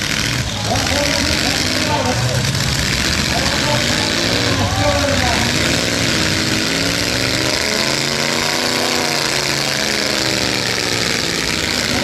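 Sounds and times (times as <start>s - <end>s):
engine revving: 0.0s - 12.0s
truck engines running hard: 0.0s - 12.0s.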